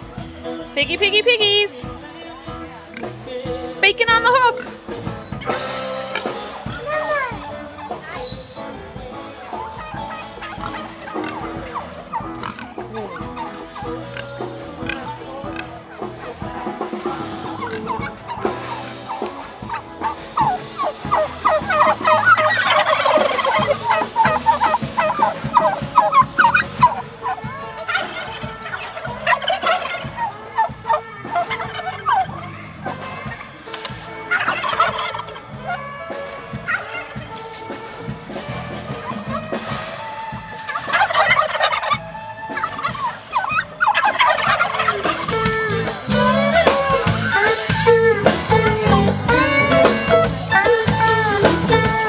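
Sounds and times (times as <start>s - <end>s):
turkeys gobbling: 0.0s - 52.0s.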